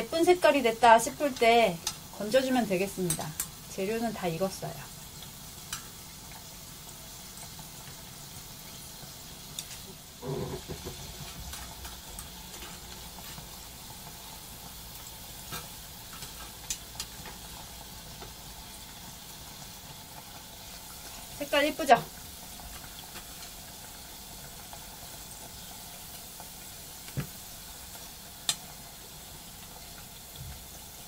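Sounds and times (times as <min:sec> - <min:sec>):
deep-frying sizzle in hot oil: 0:00.0 - 0:31.0.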